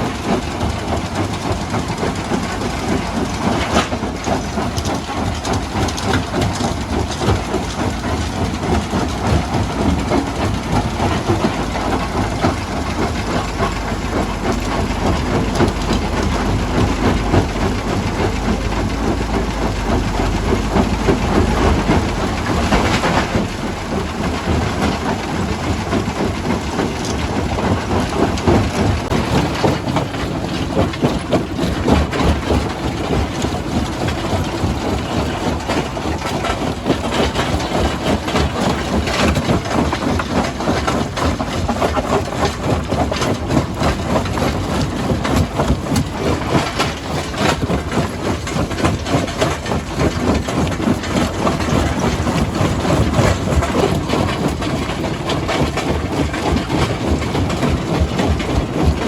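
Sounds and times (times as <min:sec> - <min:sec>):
rock-crushing machinery drone: 0:00.0 - 0:59.0.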